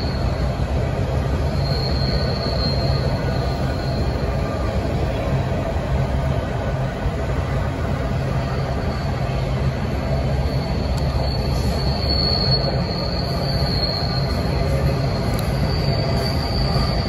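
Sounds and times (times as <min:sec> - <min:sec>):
high wheel squeal: 0:00.0 - 0:05.6, 0:08.0 - 0:17.0
freight train cars rumbling: 0:00.0 - 0:17.0.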